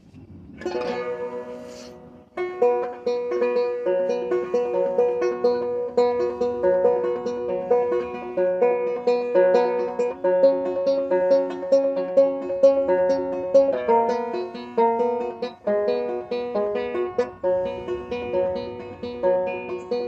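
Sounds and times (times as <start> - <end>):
banjo picking: 0.0 - 20.0.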